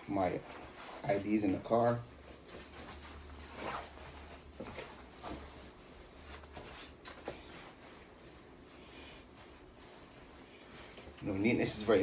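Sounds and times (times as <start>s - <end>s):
clothing rustling: 0.0s - 12.0s.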